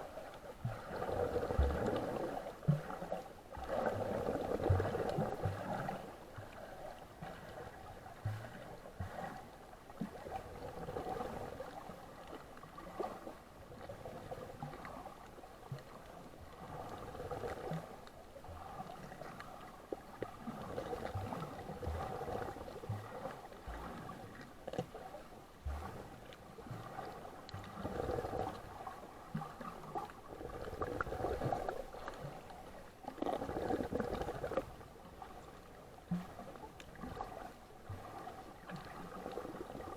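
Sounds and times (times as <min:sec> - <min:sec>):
muffled water washing: 0:00.0 - 0:39.9.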